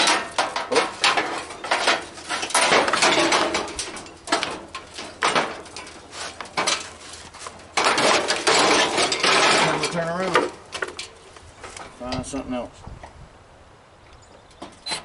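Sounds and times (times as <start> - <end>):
metal grill parts clattering: 0.0 - 12.2.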